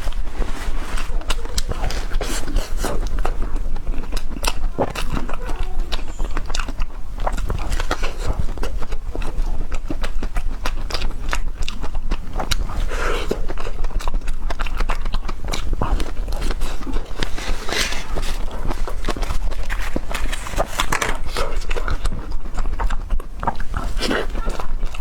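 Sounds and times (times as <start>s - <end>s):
crunchy ice cream chewing: 0.0s - 25.0s.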